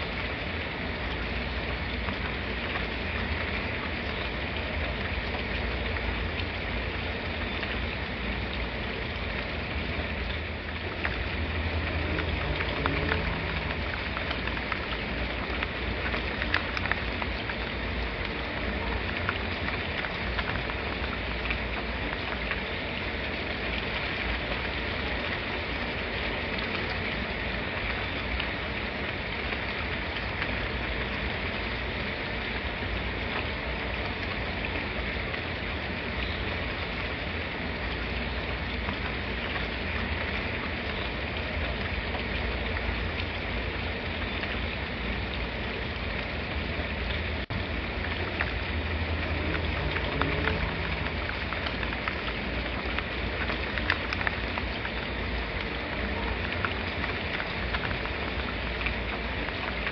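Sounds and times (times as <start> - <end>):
rain drop ticks: 0.0 - 59.9
steady rain hiss: 0.0 - 59.9.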